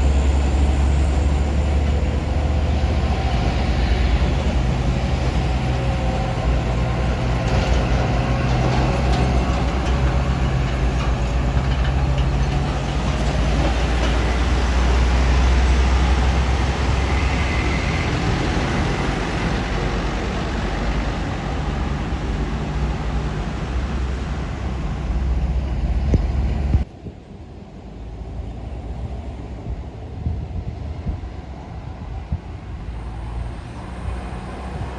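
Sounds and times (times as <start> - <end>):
heavy truck engine under load: 0.0 - 34.9
road and wind noise: 0.0 - 34.9.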